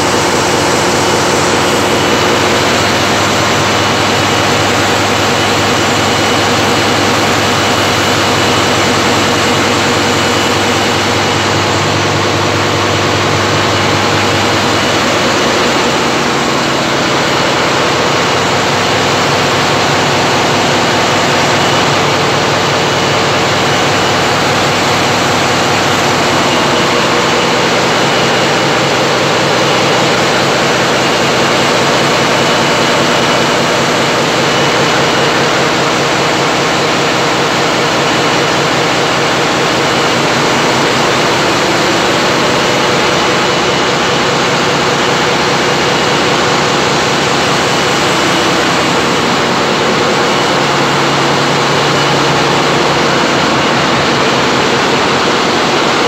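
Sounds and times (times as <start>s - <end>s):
large diesel engines running: 0.0s - 56.0s.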